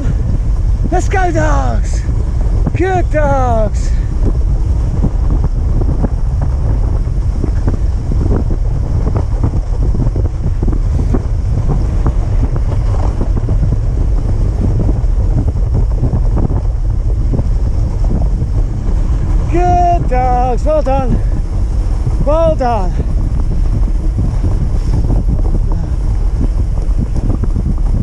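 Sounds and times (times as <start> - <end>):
sled scraping over packed snow: 0.0 - 28.0
wind buffeting microphone: 0.0 - 28.0.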